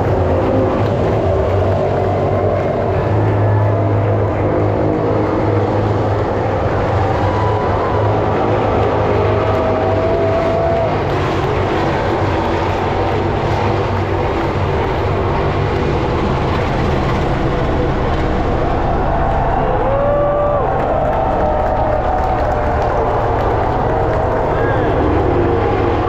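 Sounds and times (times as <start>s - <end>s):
racing motorcycle engines: 0.0s - 26.0s.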